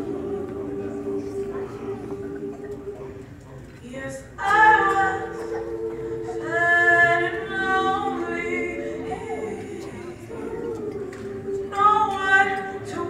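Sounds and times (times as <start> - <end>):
gospel chorus singing chords: 0.0 - 13.0.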